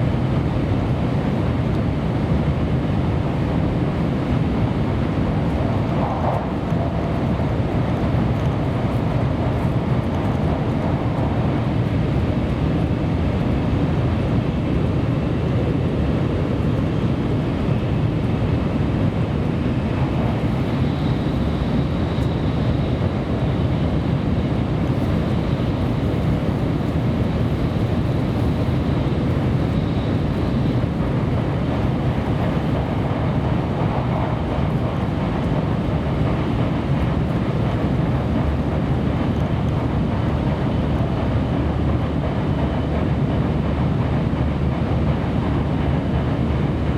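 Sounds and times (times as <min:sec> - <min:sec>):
air rushing along train: 0:00.0 - 0:46.9
train wheels rumbling on rail: 0:00.0 - 0:46.9.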